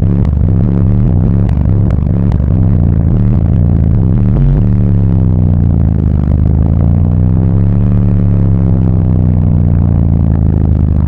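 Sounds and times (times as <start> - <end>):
subwoofer deep bass note: 0.0 - 11.0.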